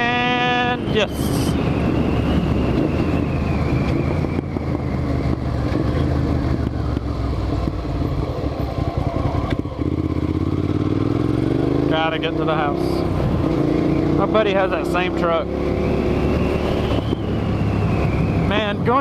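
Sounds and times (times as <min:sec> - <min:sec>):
wind noise on microphone: 0:00.0 - 0:11.8, 0:12.7 - 0:19.0
motorcycle engine running: 0:01.7 - 0:19.0.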